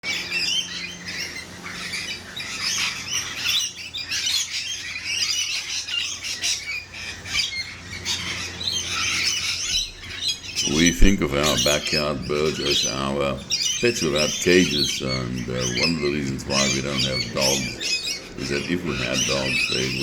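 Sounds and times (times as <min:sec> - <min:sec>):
birds squawking and chirping: 0:00.0 - 0:20.0.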